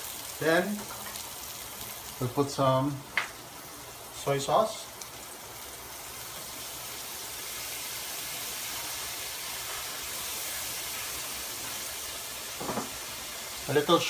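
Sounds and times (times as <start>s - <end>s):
vegetables sizzling in a wok: 0.0s - 14.0s.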